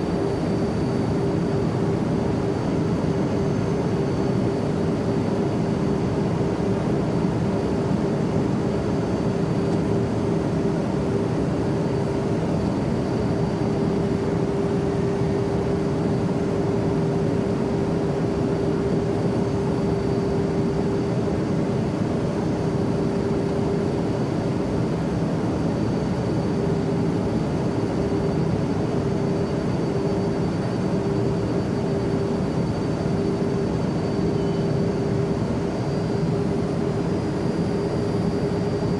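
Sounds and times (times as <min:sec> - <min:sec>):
airplane cabin engine rush: 0:00.0 - 0:38.9
constant hum: 0:00.0 - 0:38.9.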